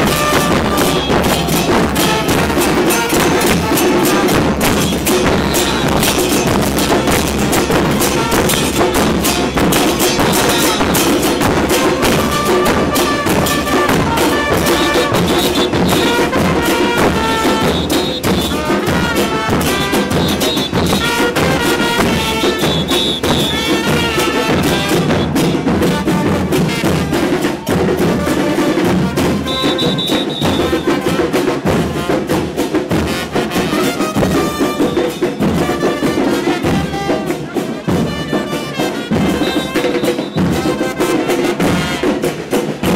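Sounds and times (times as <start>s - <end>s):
carnival band drumming: 0.0s - 42.9s.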